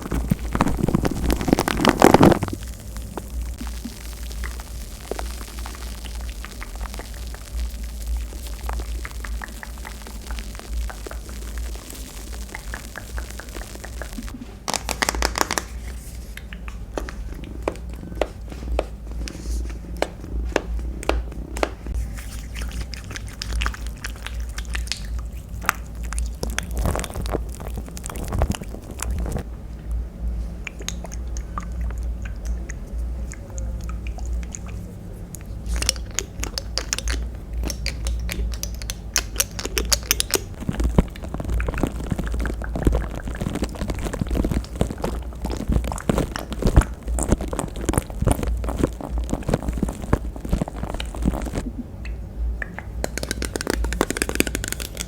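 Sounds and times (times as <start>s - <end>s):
crackling and scratching: 0.0s - 29.5s, 30.8s - 51.7s, 53.0s - 55.0s
low steady hum: 0.0s - 55.0s.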